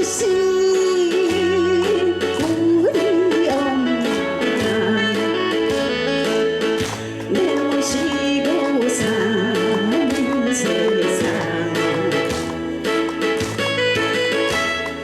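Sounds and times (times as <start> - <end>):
person singing folk song: 0.0 - 14.2
instrumental backing with beat: 0.0 - 15.0.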